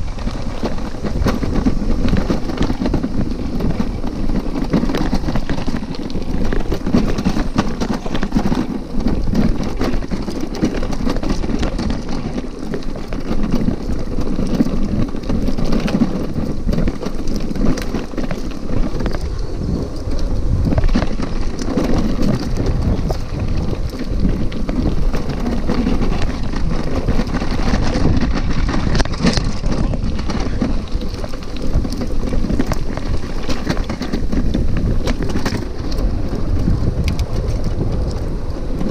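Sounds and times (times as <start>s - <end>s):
bicycle rolling over dirt trail: 0.0s - 38.9s.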